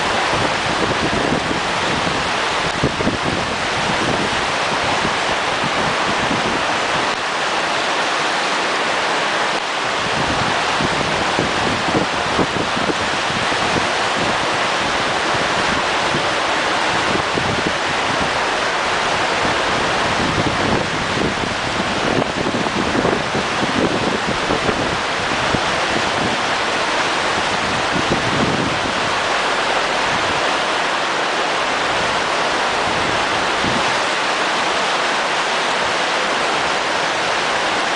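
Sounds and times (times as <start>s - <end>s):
rushing water: 0.0s - 37.9s
wind buffeting microphone: 0.0s - 37.9s.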